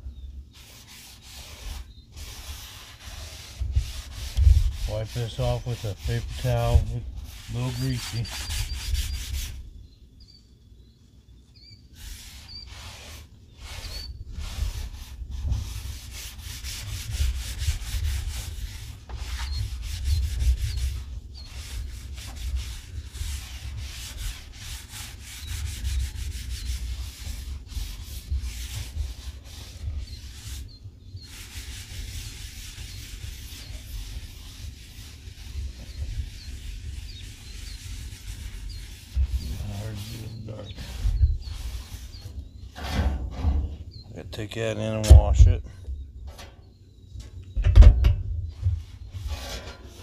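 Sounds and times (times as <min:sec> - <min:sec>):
paper towel wiping steel griddle: 0:00.5 - 0:09.6, 0:12.0 - 0:43.5.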